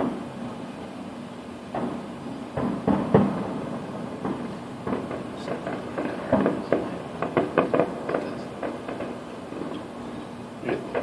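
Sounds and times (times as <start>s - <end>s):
distant fireworks bangs: 0.0s - 0.6s, 1.6s - 11.0s.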